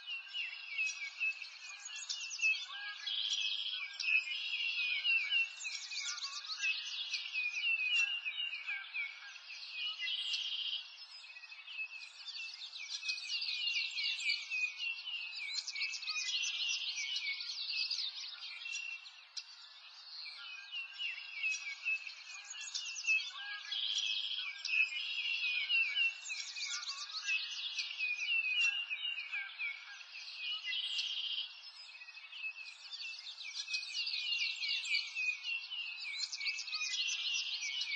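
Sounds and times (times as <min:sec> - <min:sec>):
songbirds chirping and trilling: 0:00.0 - 0:37.9.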